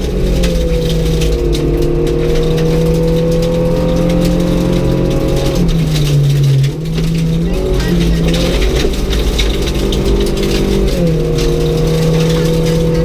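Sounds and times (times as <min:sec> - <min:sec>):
gravel pinging on underside: 0:00.0 - 0:13.0
rally car engine: 0:00.0 - 0:13.0.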